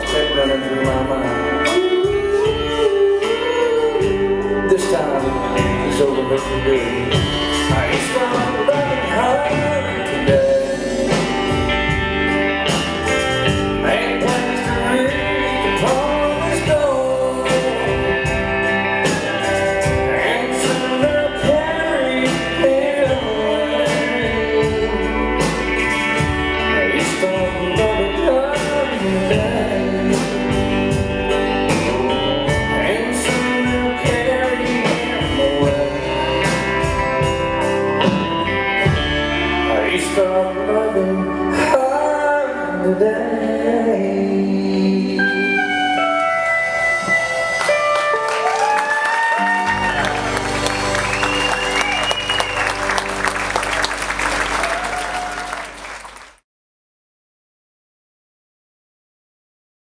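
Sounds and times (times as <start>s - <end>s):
live country band playing: 0.0s - 56.3s.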